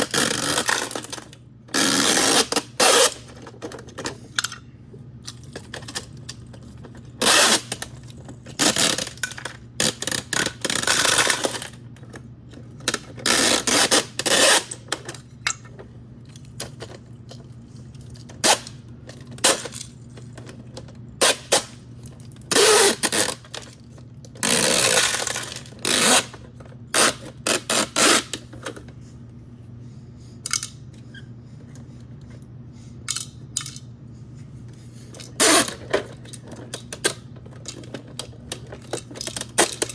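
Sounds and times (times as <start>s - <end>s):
plastic toys clattering and scraping: 0.0s - 4.6s, 5.3s - 28.9s, 30.4s - 30.8s, 33.1s - 33.9s, 34.9s - 39.9s
faint steady hum: 0.0s - 39.9s.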